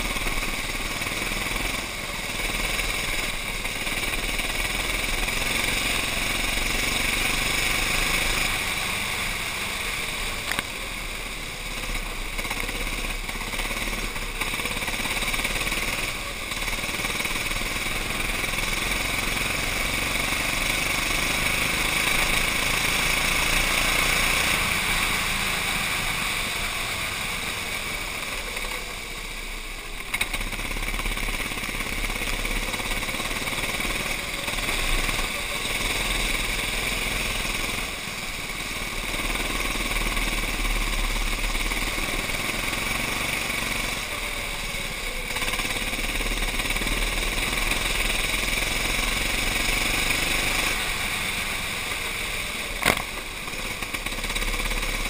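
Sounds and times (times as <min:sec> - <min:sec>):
go-kart engine running: 0:00.0 - 0:55.0.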